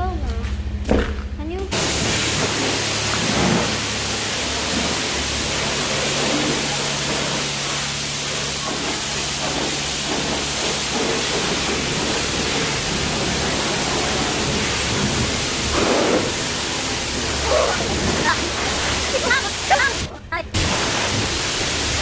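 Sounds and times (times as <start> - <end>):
car wash water spray hiss: 1.7 - 22.0.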